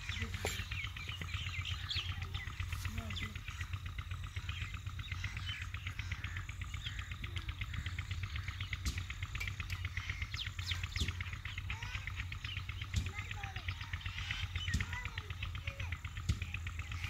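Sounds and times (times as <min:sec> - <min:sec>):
birds chirping: 0:00.0 - 0:17.0
fast pulsing trill: 0:00.0 - 0:17.0
steady low hum: 0:00.0 - 0:17.0.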